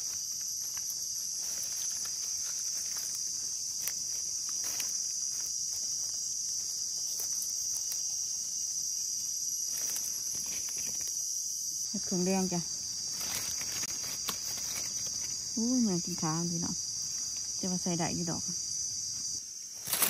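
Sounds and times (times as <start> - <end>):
dry leaves rustling: 0.0 - 20.0
high-pitched insect drone: 0.0 - 20.0.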